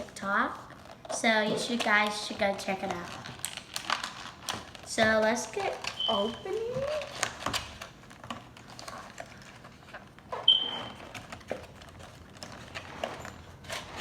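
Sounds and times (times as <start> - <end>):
plastic and cardboard rustling: 0.0 - 14.0.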